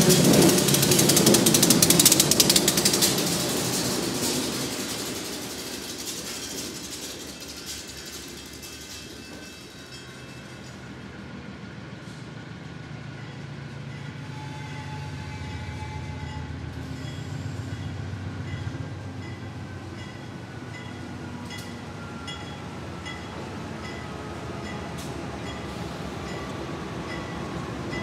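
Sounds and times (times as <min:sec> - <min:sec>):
diesel locomotive engine rumbling: 0:00.0 - 0:28.0.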